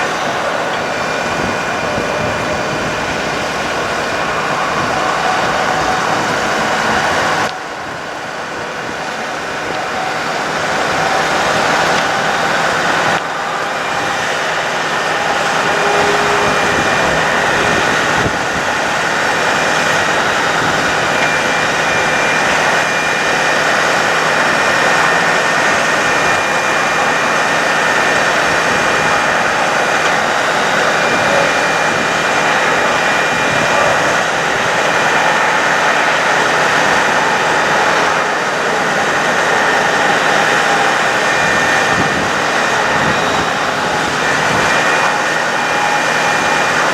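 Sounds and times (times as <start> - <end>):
faint steady whine: 0.0 - 46.9
truck engine running: 0.0 - 46.9.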